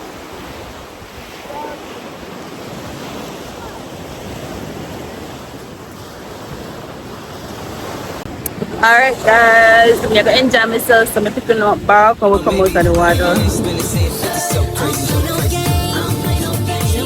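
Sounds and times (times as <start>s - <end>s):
wind gusting across microphone: 0.0s - 14.9s
rough sea surf: 0.0s - 17.0s.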